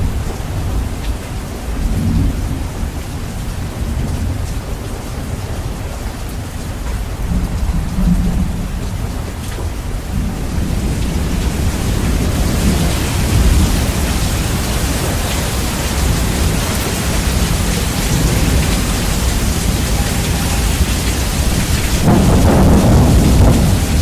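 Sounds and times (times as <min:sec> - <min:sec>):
heavy rain: 0:00.0 - 0:24.0
low thunder rumble: 0:00.0 - 0:24.0.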